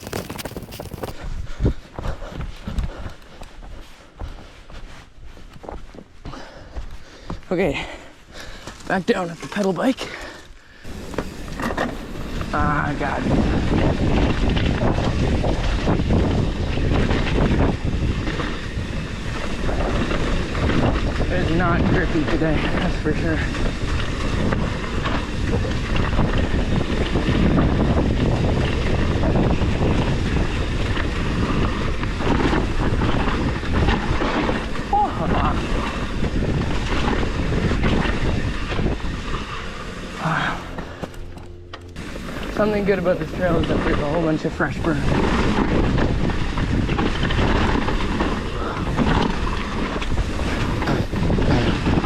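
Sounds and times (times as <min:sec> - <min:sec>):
bike knocks and rattles: 0:00.0 - 0:01.2, 0:10.9 - 0:52.0
wind buffeting microphone: 0:00.0 - 0:05.4, 0:10.8 - 0:52.0
tyre noise on dirt: 0:00.0 - 0:52.0.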